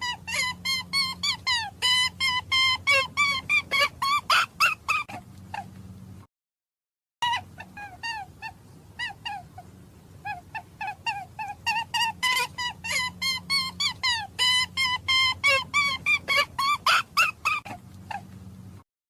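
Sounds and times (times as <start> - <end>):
small animal squeaking: 0.0 - 5.7, 7.2 - 18.3.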